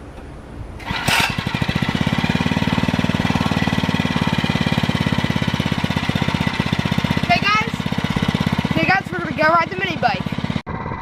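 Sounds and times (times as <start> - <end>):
small engine starting and running: 0.8 - 11.0.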